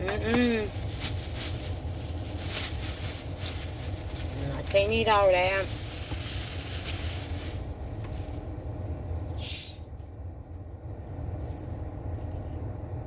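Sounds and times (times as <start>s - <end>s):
car idling hum: 0.0s - 13.0s.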